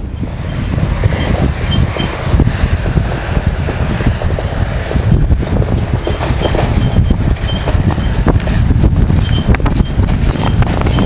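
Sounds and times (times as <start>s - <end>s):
truck diesel engine running: 0.0s - 11.0s
wind buffeting on microphone: 0.0s - 11.0s.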